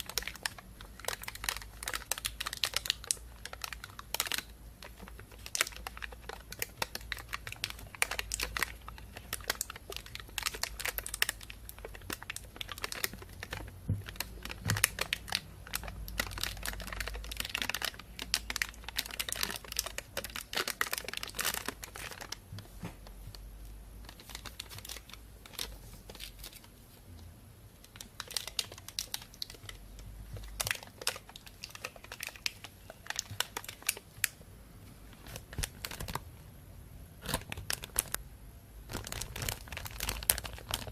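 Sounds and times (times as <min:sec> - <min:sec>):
plastic bag crinkling: 0:00.0 - 0:23.4, 0:24.0 - 0:27.0, 0:27.8 - 0:34.4, 0:35.1 - 0:36.4, 0:37.2 - 0:38.2, 0:38.9 - 0:40.9.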